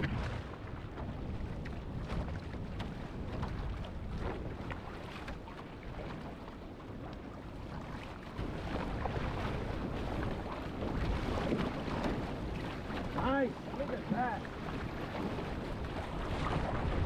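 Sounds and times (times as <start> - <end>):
rough ocean water splashing: 0.0 - 17.0
wind buffeting microphone: 0.0 - 17.0.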